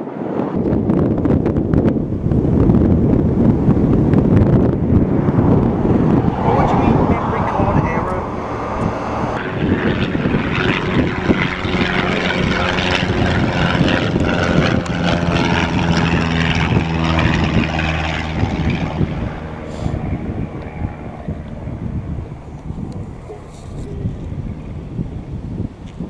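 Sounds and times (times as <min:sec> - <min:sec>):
propeller aircraft engine: 0:00.0 - 0:26.0.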